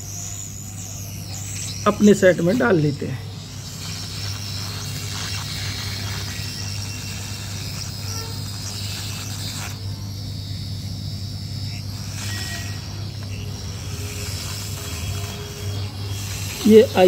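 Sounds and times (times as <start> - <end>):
hot air gun hissing: 0.0 - 17.0.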